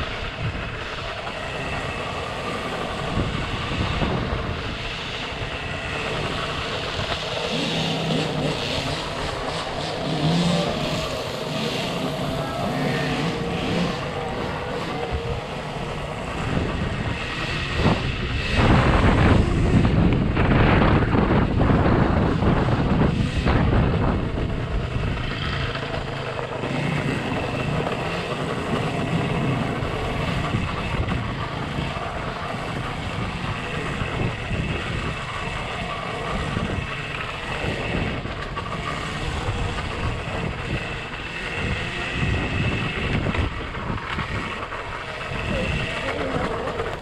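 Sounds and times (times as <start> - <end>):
faint high whine: 0.0 - 46.4
rough rumble of riding: 0.0 - 47.0
wind buffeting microphone: 0.0 - 47.0.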